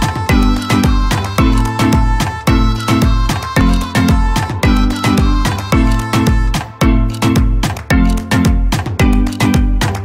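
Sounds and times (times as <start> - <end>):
held instrumental tones: 0.0 - 10.0.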